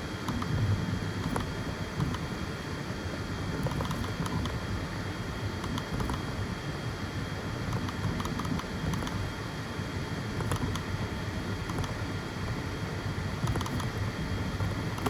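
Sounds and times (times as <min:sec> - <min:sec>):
printer motors and fans whirring: 0:00.0 - 0:15.0.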